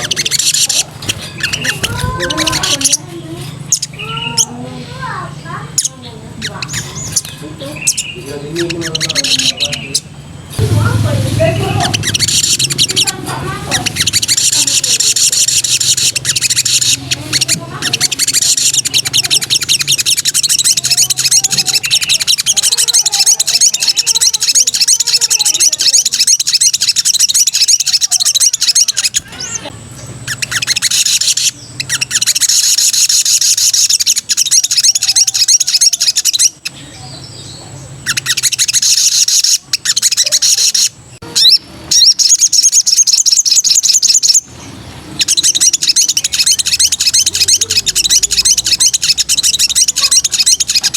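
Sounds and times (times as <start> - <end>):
songbird singing rapid trills: 0.0 - 50.9.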